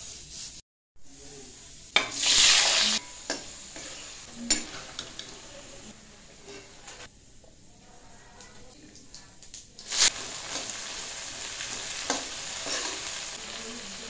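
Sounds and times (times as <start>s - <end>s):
frying in hot oil sizzling: 0.0s - 14.0s.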